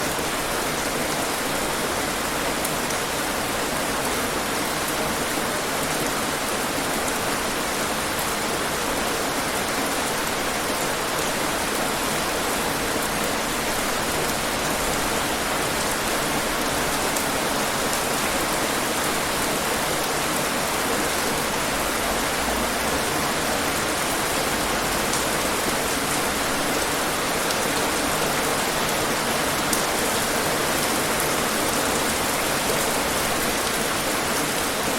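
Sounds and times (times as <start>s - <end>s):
heavy rain on hard surfaces: 0.0s - 34.9s.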